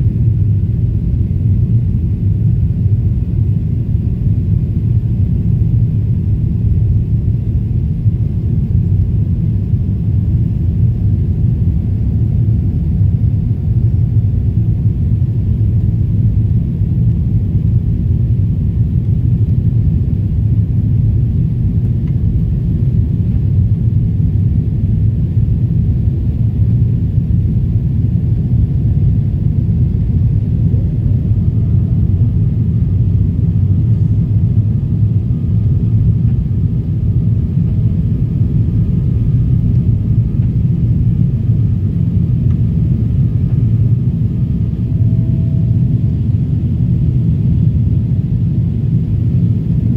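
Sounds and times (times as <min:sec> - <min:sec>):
jet engines rumbling in cabin: 0:00.0 - 0:49.9.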